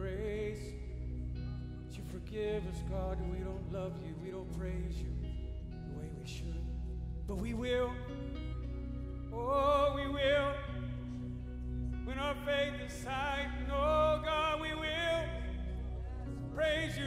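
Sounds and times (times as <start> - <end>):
low instrumental drone: 0.0 - 17.0.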